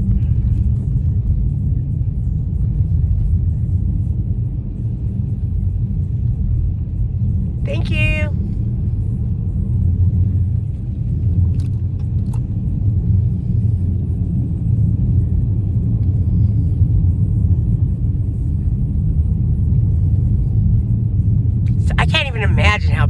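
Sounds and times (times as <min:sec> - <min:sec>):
car engine and tyres rumbling: 0:00.0 - 0:07.7, 0:08.4 - 0:22.3.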